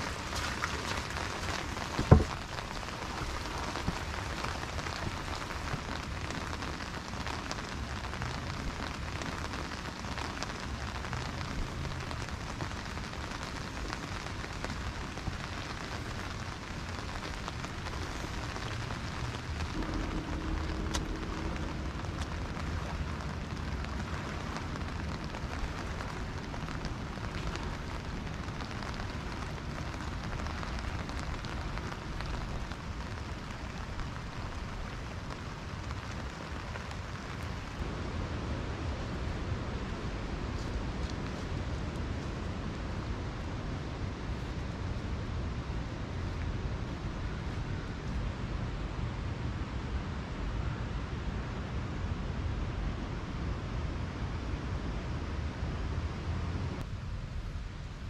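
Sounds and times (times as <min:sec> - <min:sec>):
rain on wet pavement: 0:00.0 - 0:58.0.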